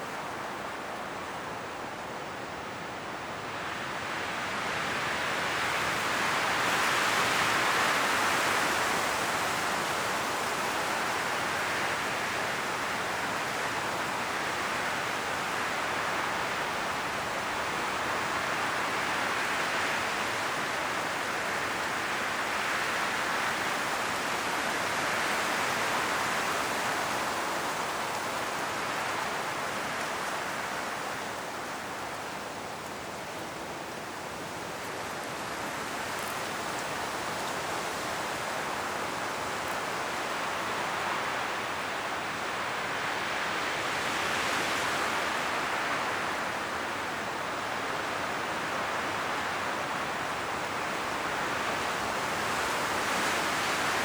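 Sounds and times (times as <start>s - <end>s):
wind rustling leaves: 0.0s - 54.0s.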